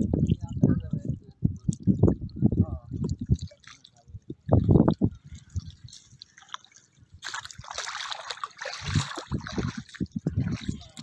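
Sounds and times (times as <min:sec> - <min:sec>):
muddy water splashing: 0:00.0 - 0:11.0
water trickling: 0:00.0 - 0:11.0.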